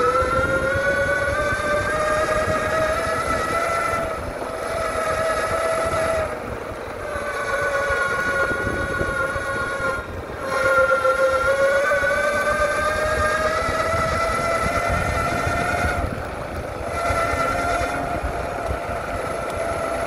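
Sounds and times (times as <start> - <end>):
electric motors whining: 0.0 - 20.0
wheels rumbling: 0.0 - 20.0.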